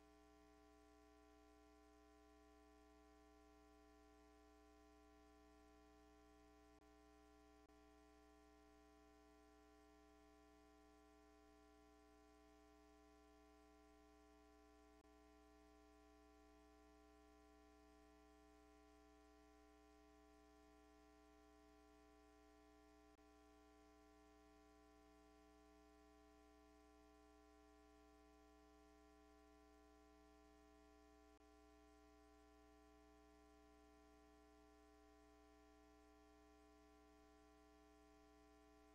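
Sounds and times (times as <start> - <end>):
faint electrical hum: 0.0 - 38.9.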